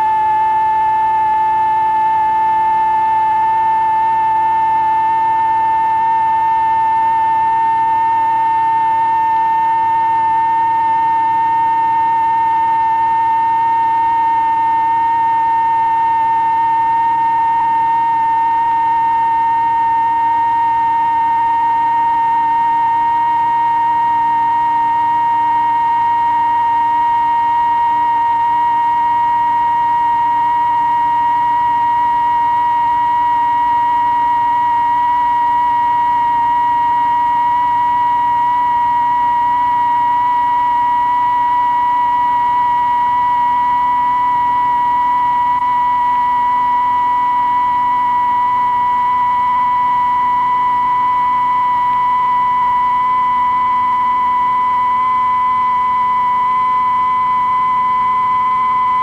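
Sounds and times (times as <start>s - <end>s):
high rising electronic sine tone: 0.0s - 59.0s.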